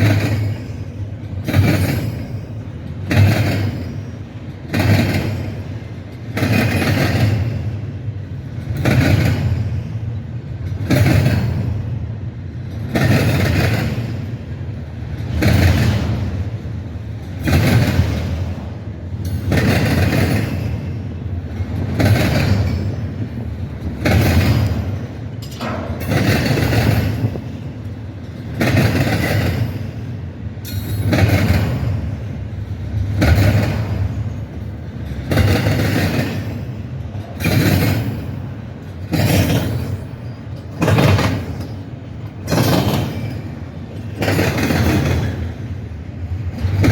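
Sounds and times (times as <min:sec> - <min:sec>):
train rolling past: 0:00.0 - 0:46.9.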